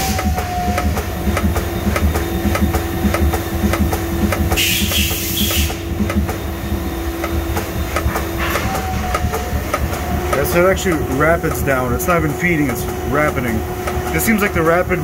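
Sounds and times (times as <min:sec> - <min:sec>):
low machine rumble and hum: 0:00.0 - 0:15.0
rhythmic knocking of mill tool: 0:00.0 - 0:15.0.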